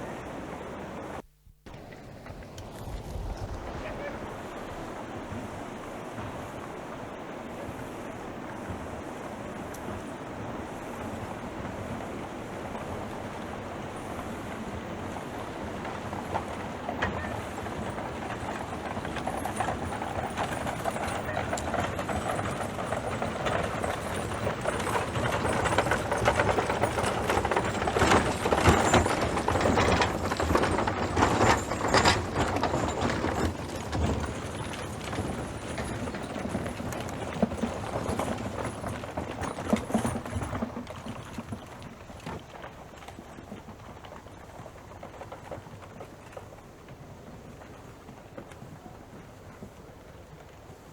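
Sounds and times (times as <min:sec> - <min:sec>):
horse hooves clip-clopping: 0:00.0 - 0:50.9.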